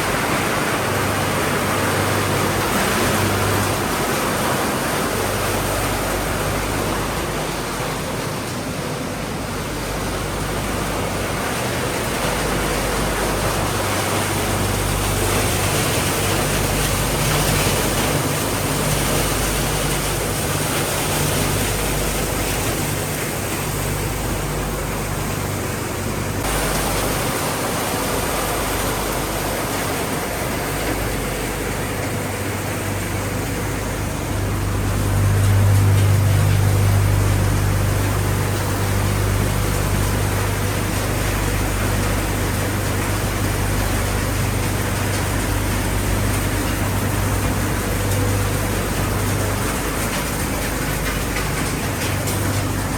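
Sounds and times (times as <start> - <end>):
recycling machinery din: 0.0 - 52.9
low hum: 9.5 - 52.9.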